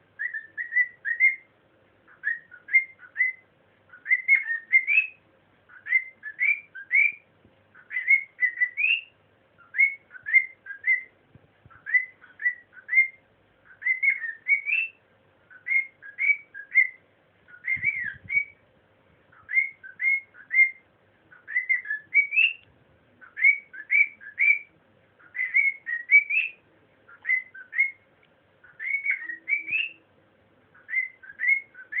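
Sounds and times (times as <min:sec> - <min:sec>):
cockatiel whistling a tune: 0:00.2 - 0:01.5, 0:02.1 - 0:07.2, 0:07.8 - 0:11.1, 0:11.7 - 0:18.6, 0:19.3 - 0:22.6, 0:23.2 - 0:28.0, 0:28.6 - 0:30.0, 0:30.8 - 0:32.0.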